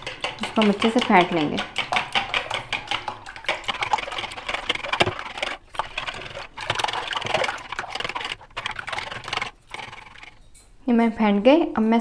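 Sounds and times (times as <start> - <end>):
whisk beating eggs in bowl: 0.0 - 10.5.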